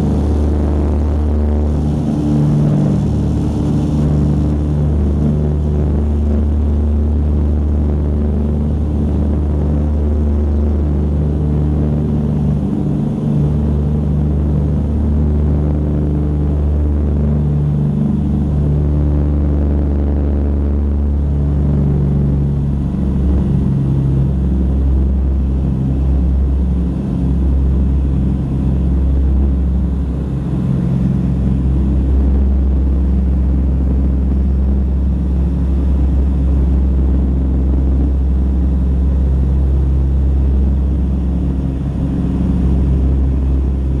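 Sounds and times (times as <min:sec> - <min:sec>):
propeller engines droning in cabin: 0:00.0 - 0:44.0.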